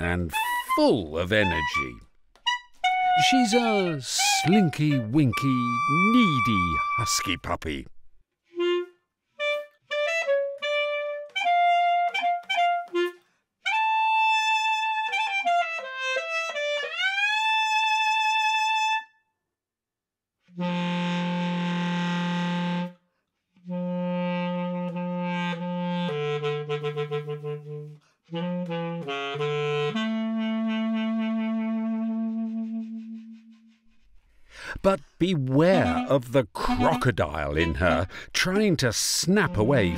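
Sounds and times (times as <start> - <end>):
basset horn playing: 1.4 - 7.2, 8.6 - 19.0, 20.5 - 23.0, 23.6 - 33.8, 35.5 - 39.9.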